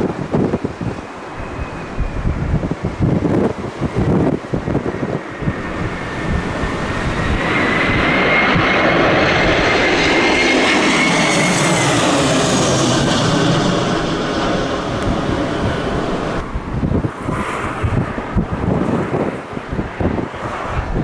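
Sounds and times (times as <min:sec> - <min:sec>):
wind buffeting microphone: 0:00.0 - 0:21.0
aircraft engines whining: 0:00.1 - 0:21.0.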